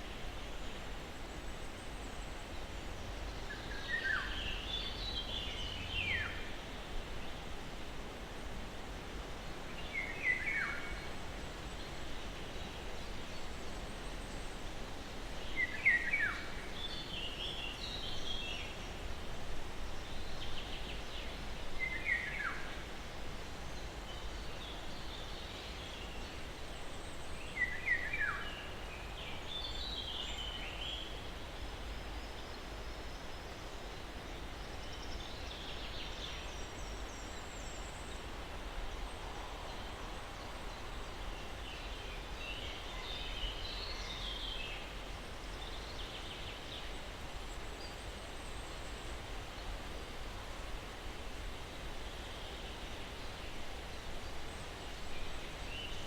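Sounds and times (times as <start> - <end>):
breeze through pine trees: 0.0 - 56.0.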